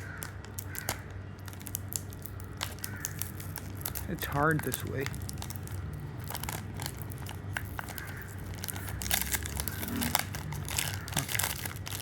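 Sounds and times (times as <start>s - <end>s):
foil pack tearing and crinkling: 0.0s - 12.0s.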